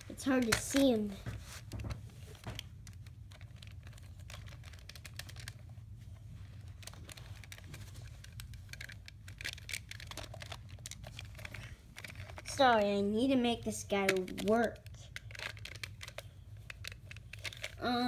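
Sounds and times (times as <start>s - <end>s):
objects clicking and rustling: 0.1s - 5.6s, 6.4s - 12.9s, 13.8s - 17.9s.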